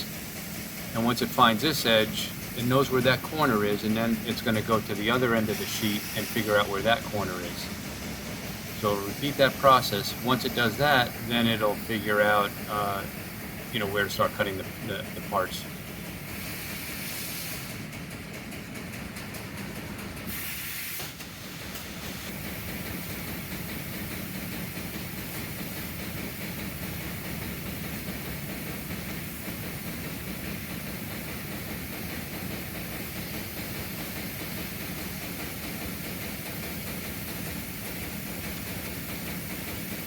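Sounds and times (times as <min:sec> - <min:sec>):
laser cutter hiss: 0:00.0 - 0:17.8, 0:20.3 - 0:40.0.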